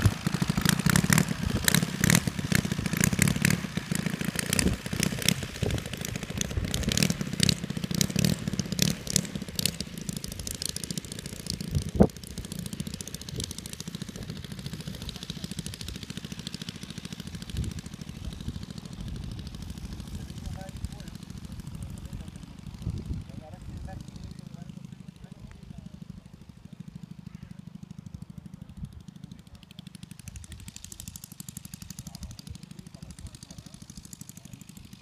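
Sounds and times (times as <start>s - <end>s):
model plane engine popping: 0.0s - 35.0s.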